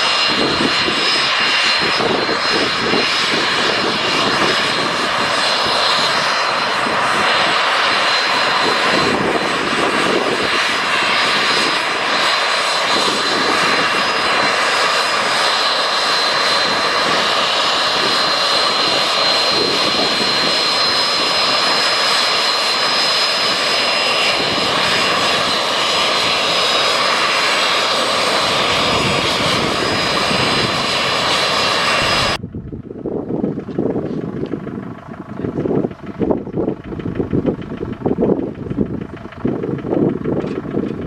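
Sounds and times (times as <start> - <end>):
jet engine rush with high whine: 0.0 - 41.0.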